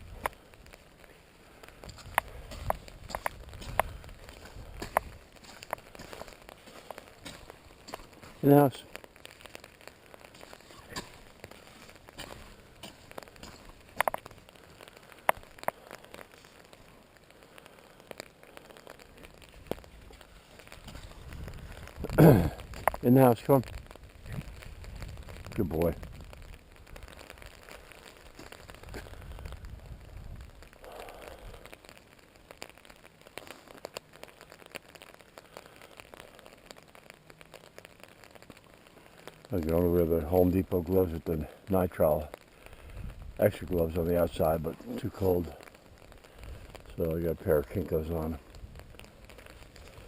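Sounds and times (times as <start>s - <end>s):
rain on an umbrella: 0.0s - 50.0s.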